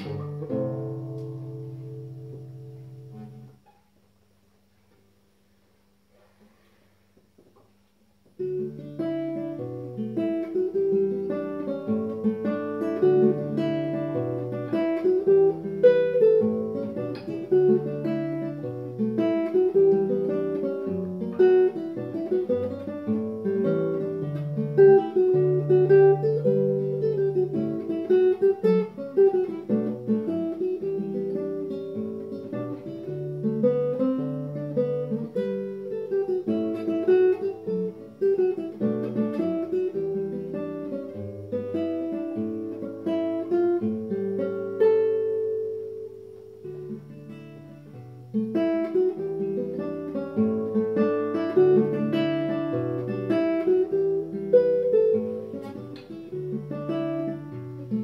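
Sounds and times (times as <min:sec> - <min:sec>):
fingerpicked classical guitar: 0:00.0 - 0:58.0.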